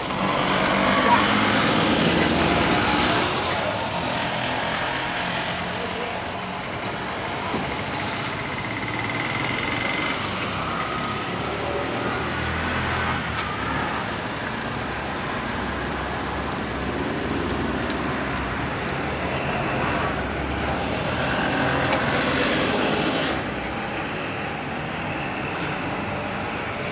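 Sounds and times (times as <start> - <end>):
passing vehicles: 0.0 - 26.9.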